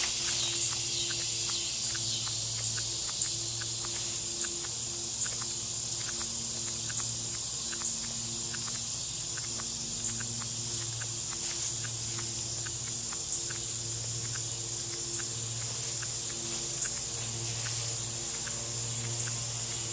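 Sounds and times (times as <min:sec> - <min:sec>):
insect chorus: 0:00.0 - 0:19.9
low hum: 0:00.0 - 0:19.9.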